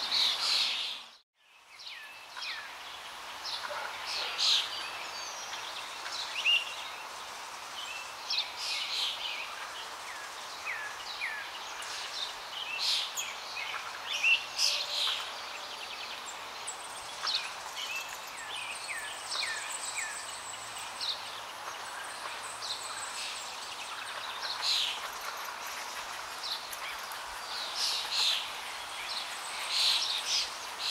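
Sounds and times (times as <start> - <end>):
small birds chirping: 0.0 - 30.9
steady background hiss: 0.0 - 30.9.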